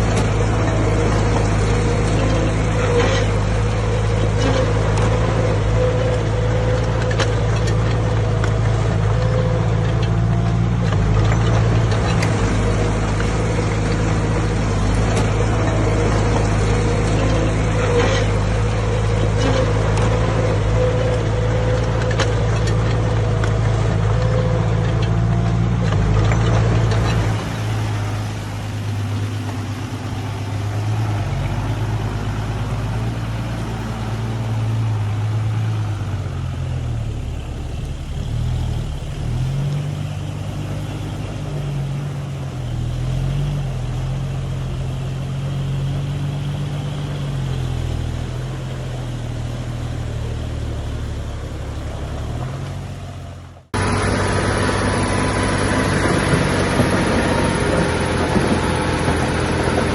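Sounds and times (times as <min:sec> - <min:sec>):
heavy machinery diesel engine: 0:00.0 - 0:59.9
louder engine running: 0:00.0 - 0:59.9.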